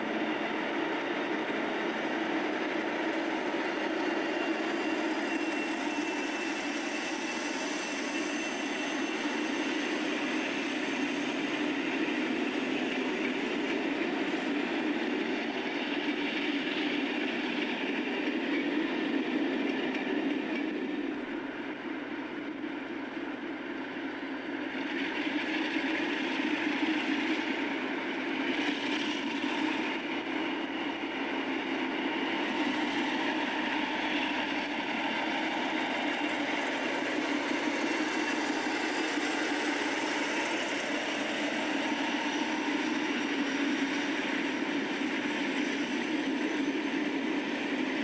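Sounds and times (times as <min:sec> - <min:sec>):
train rail noise: 0:00.0 - 0:48.0.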